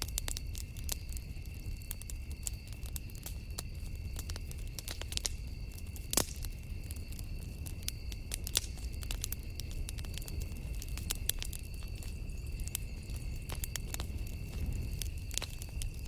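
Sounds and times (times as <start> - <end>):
campfire crackling and popping: 0.0 - 16.0
low fire rumble: 0.0 - 16.0.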